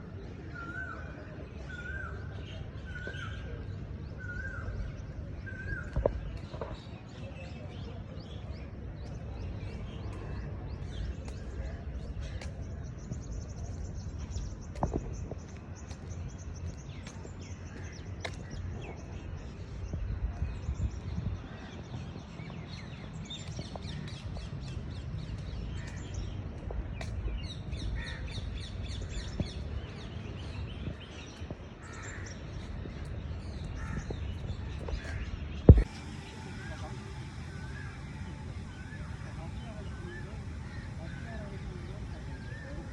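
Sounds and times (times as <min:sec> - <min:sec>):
low steady rumble: 0:01.9 - 0:42.9.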